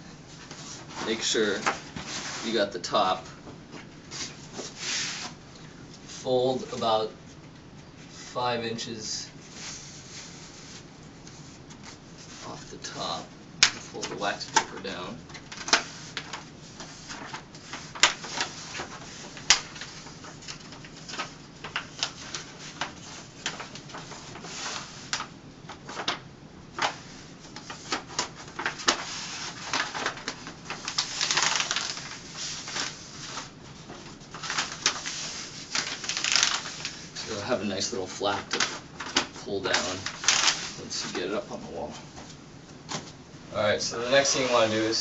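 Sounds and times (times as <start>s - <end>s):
paper crackling and rustling: 0.4s - 5.4s, 9.4s - 41.5s, 43.9s - 45.0s.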